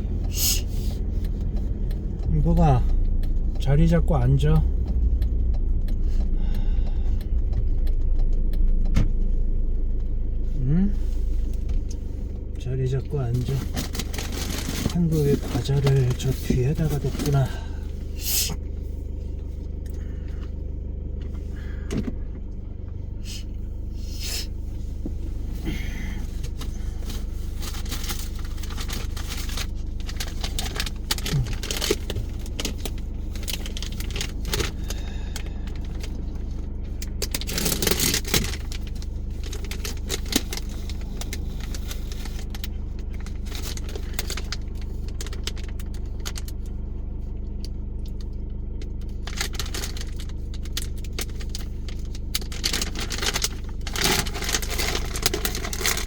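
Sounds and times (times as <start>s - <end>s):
car engine and road drone: 0.0s - 56.0s.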